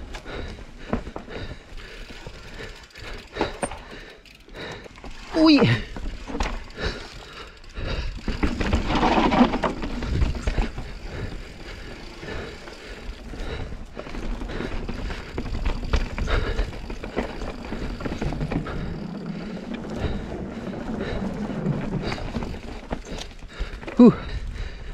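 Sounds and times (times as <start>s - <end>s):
bike chain and frame rattling: 0.0s - 24.8s
bike tyres rolling over dirt: 0.0s - 24.9s.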